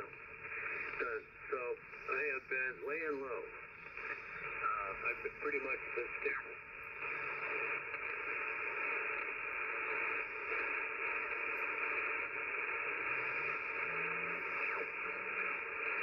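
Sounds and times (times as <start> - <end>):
faint low radio tones: 0.0 - 16.0
shortwave radio static: 0.0 - 16.0.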